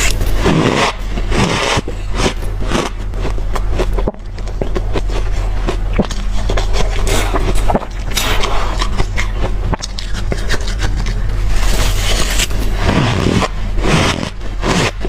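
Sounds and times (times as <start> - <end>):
chewing crushed ice: 0.0 - 15.0
steady low hum: 0.0 - 15.0.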